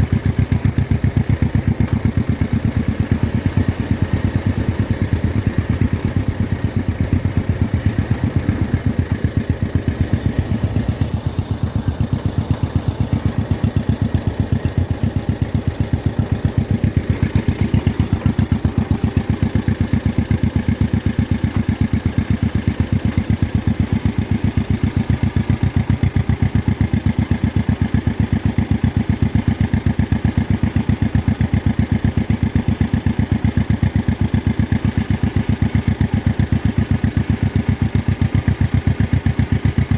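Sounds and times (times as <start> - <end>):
tractor engine exhaust popping: 0.0 - 39.9.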